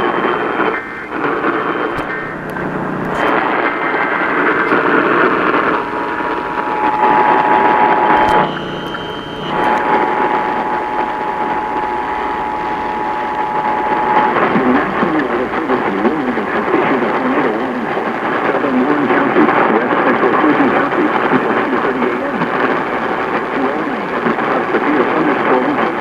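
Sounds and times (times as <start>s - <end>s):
radio static hiss: 0.0s - 26.0s.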